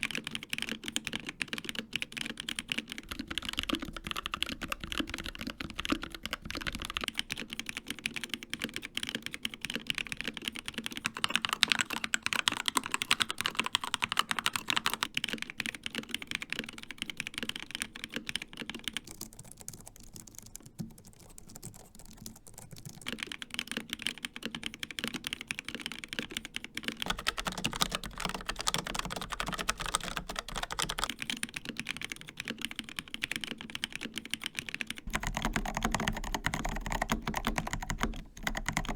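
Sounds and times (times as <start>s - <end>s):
fast typing on keyboards: 0.0s - 38.9s.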